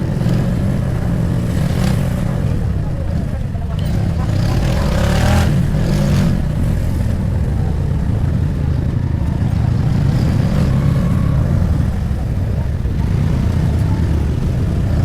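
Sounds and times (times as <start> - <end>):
motorcycle engine and road noise: 0.0 - 15.0.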